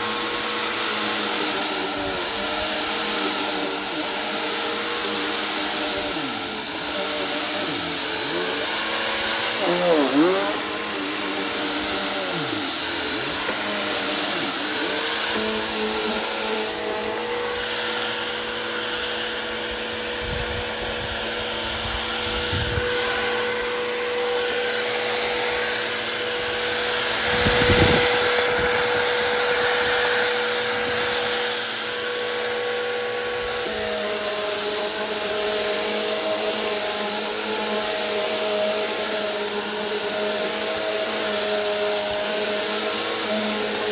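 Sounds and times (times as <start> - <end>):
vacuum cleaner running with whine: 0.0 - 43.9.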